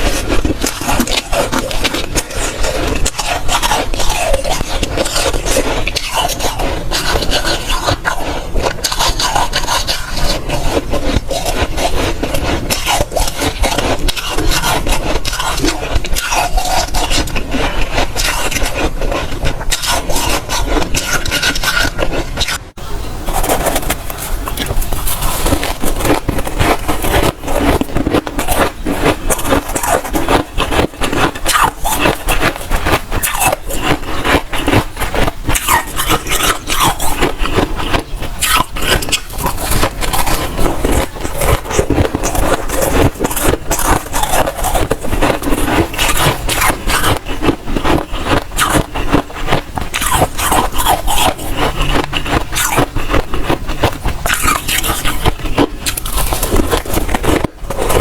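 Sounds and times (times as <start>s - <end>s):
freezer frost crunching and scraping: 0.0s - 58.0s.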